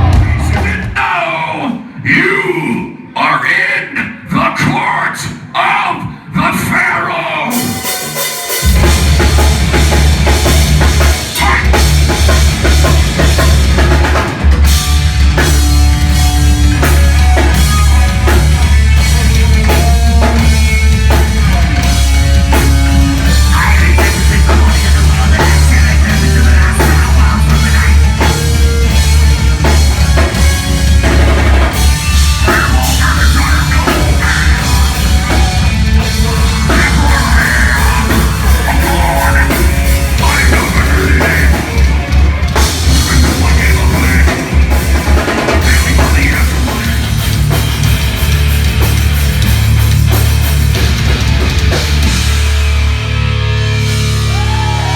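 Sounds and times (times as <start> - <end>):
pounding drum kit: 0.0 - 1.9, 7.4 - 54.9
heavy metal band playing live: 0.0 - 3.1, 3.8 - 54.9.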